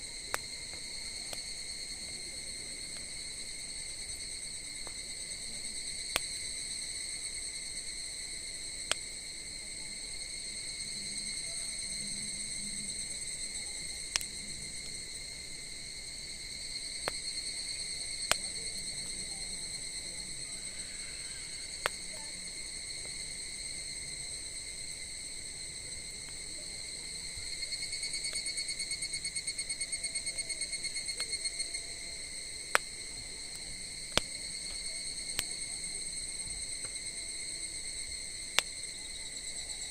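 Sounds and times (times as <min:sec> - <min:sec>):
wood fire popping: 0:00.0 - 0:06.6, 0:08.8 - 0:09.3, 0:13.3 - 0:16.0, 0:16.6 - 0:39.0
crickets trilling: 0:00.0 - 0:39.9.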